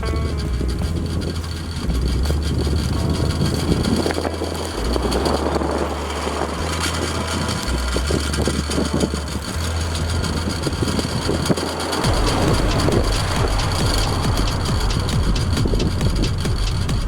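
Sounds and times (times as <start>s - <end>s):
gusty wind buffeting microphone: 0.0s - 17.0s
steady low hum: 0.0s - 17.0s.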